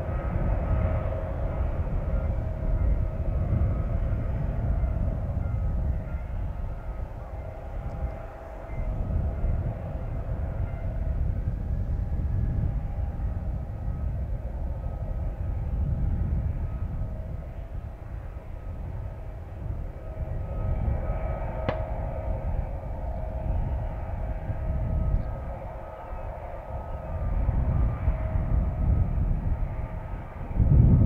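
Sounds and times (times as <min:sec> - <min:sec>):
faint whining tones: 0:00.0 - 0:31.0
low wavering rumble: 0:00.0 - 0:31.0.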